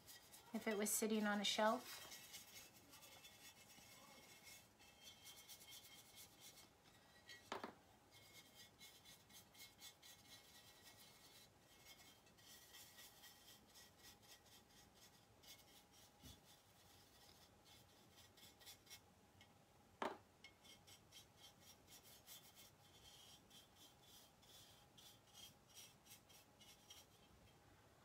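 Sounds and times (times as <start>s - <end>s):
brush scratching: 0.0s - 7.5s, 8.1s - 19.1s, 20.4s - 27.5s.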